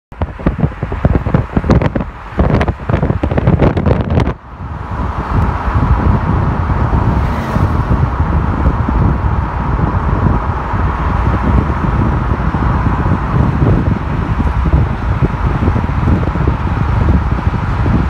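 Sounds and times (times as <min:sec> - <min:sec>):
road and tyre noise: 0:00.1 - 0:18.0.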